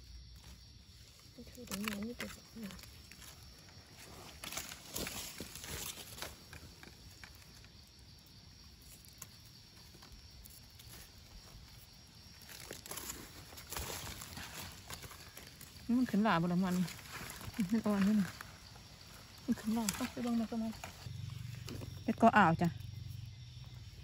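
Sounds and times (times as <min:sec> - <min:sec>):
dry leaves rustling and crackling: 0:00.4 - 0:07.8, 0:08.8 - 0:22.0.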